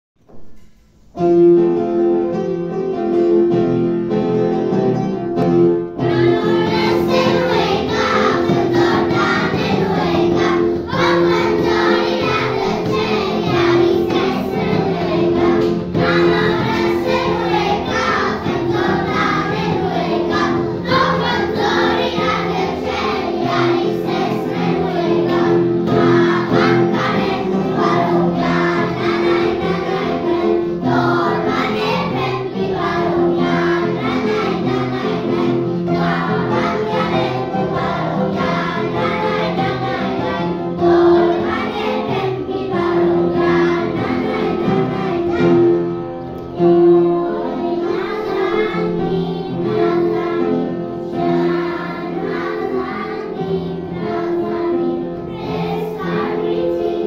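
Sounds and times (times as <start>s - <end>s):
instrumental accompaniment: 0.2s - 57.0s
choir singing: 6.0s - 46.0s, 46.6s - 57.0s.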